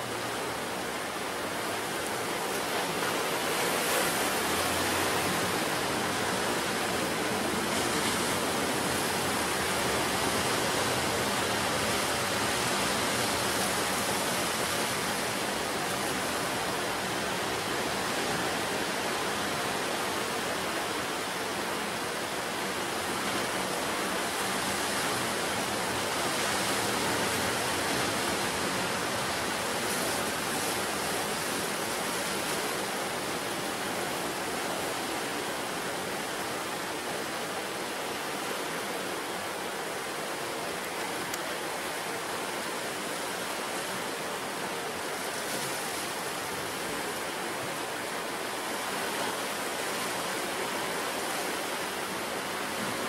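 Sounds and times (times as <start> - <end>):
ocean surf breaking: 0.0 - 53.0.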